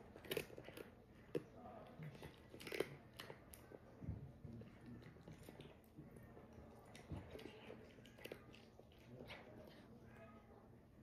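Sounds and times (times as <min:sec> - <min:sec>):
sharp chewing clicks: 0:00.0 - 0:03.8, 0:04.6 - 0:09.9
cat crunching dry kibble: 0:00.0 - 0:10.0.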